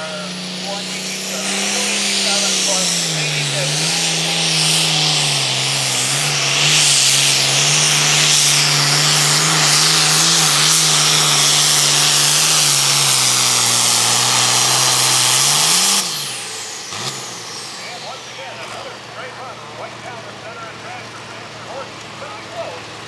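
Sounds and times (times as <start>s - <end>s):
loud hiss: 0.0s - 18.6s
tractor diesel engine under load: 0.0s - 23.0s.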